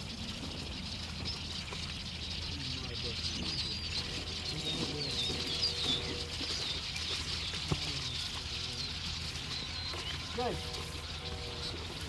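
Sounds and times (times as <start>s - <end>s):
birds twittering and chirping: 0.0s - 12.0s
low bird calls: 0.0s - 12.0s.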